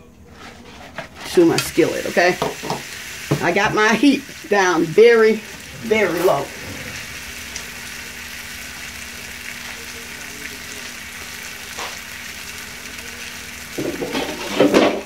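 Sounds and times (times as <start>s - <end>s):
liver sizzling in a skillet: 1.1s - 15.0s.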